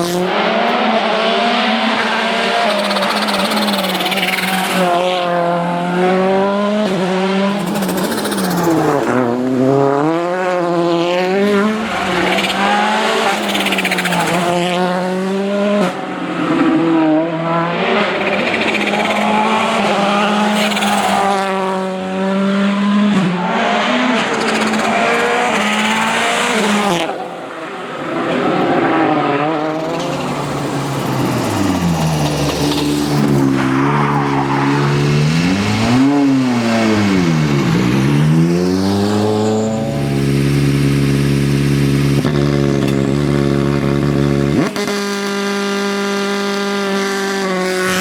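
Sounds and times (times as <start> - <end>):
rally car engine at high revs: 0.0 - 48.0.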